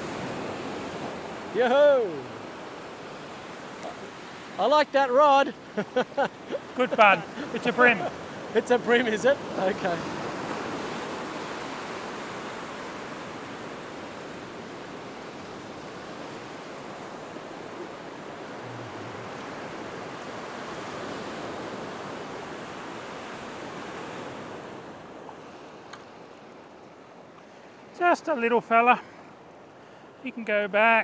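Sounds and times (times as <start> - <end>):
ocean surf on sandy beach: 0.0 - 31.0.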